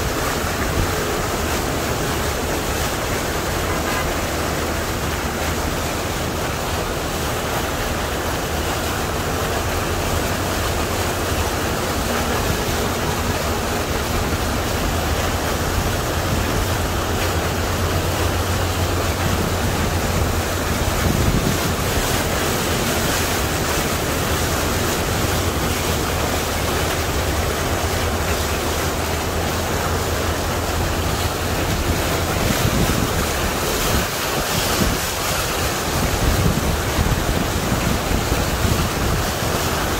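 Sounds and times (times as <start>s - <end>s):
floodwater splashing around vehicle: 0.0s - 39.9s
low engine hum: 0.0s - 39.9s.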